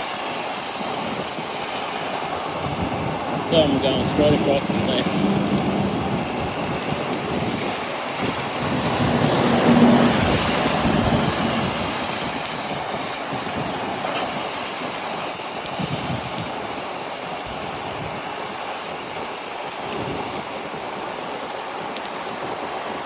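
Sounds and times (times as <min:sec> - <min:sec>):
wet road noise: 0:00.0 - 0:23.0
wind rushing over microphone: 0:00.0 - 0:23.0.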